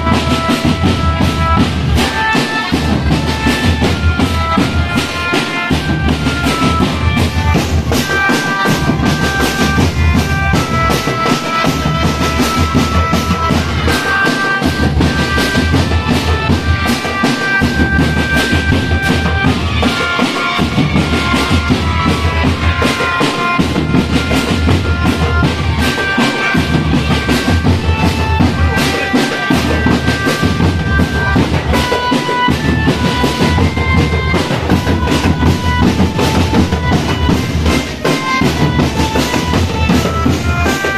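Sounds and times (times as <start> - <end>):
reedy melody: 0.0 - 40.9
snare and bass drums marching: 0.0 - 40.9.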